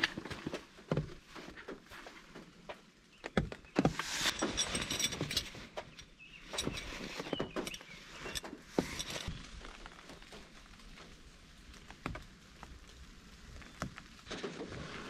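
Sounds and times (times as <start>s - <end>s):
tent poles and pegs clinking: 0.0s - 12.8s.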